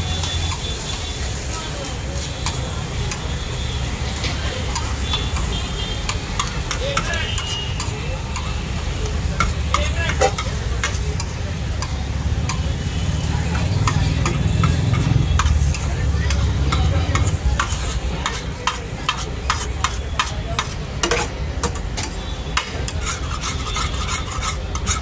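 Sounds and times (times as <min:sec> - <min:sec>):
food sizzling on griddle: 0:00.0 - 0:25.0
metal spatula scraping griddle: 0:02.1 - 0:25.0.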